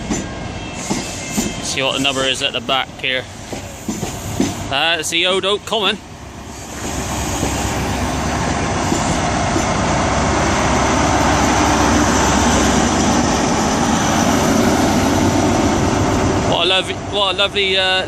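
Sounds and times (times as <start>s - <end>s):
train diesel engine rumbling: 0.0s - 18.0s.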